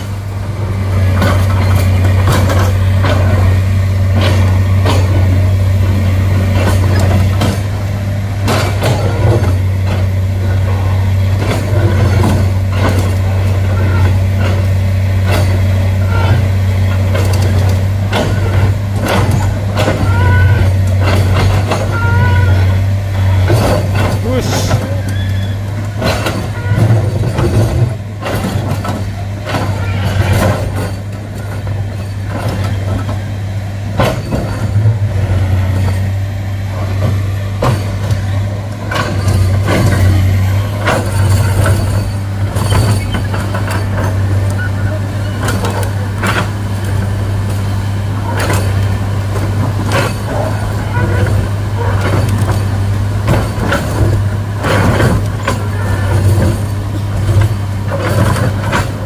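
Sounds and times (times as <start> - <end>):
diesel engine running: 0.0 - 59.0
knocks and clanks: 0.9 - 59.0.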